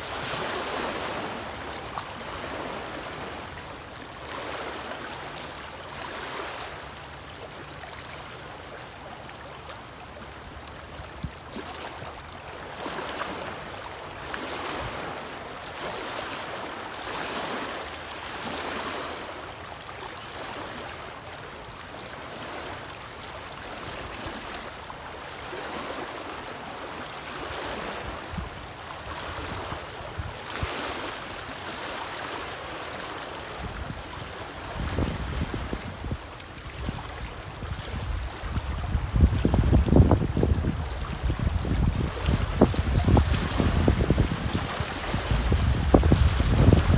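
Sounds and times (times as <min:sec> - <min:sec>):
waves splashing on rocky shore: 0:00.0 - 0:07.2, 0:11.2 - 0:21.4, 0:22.0 - 0:46.9.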